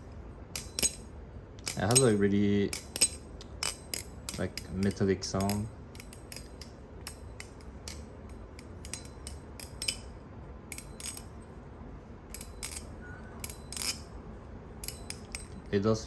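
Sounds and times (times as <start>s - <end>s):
balisong handles clacking: 0.0s - 11.6s, 12.3s - 14.2s, 14.8s - 16.0s.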